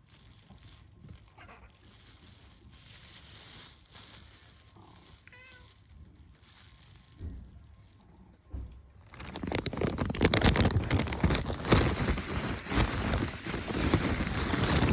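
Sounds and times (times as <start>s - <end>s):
faint rustling: 0.0s - 14.9s.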